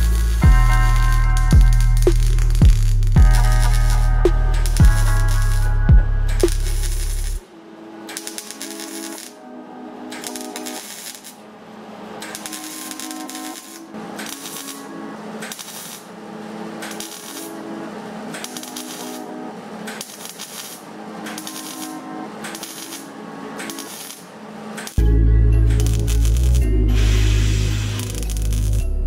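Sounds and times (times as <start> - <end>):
mig welder crackling: 0.0 - 25.0, 25.6 - 28.8.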